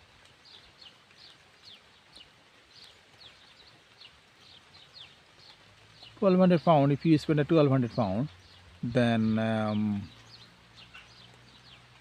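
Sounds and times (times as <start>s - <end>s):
small bird calling: 0.0s - 6.9s, 7.7s - 12.0s.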